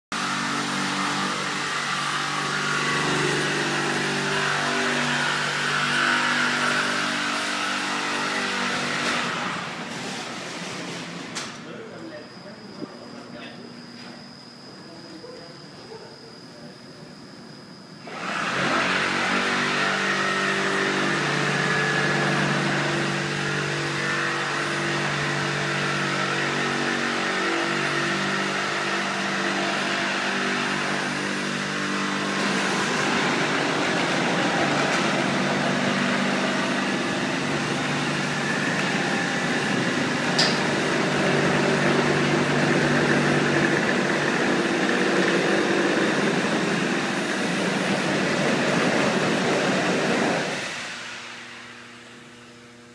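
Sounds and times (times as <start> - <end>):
machine mechanical drone: 0.2 - 52.9.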